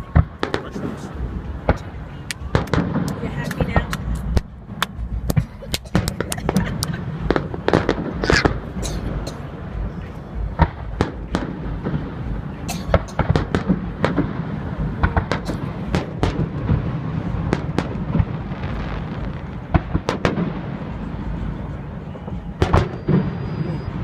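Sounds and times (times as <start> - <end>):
low rumble: 0.0 - 22.7
fireworks bangs and crackles: 0.0 - 24.0.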